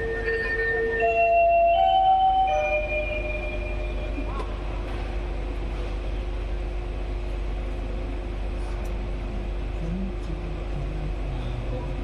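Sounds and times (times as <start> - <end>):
constant hum: 0.0 - 12.0
passenger train rumble: 0.0 - 12.0.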